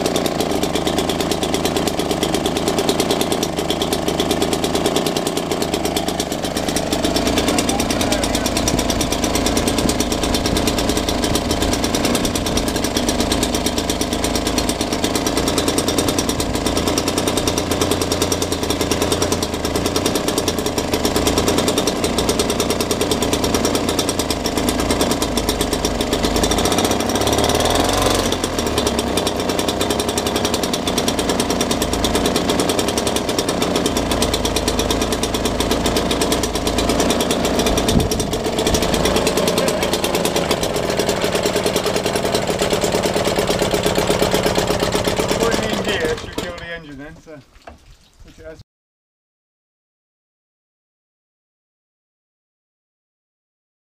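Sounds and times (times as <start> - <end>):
outboard motor running: 0.0 - 47.8
propeller churning water: 0.0 - 48.6.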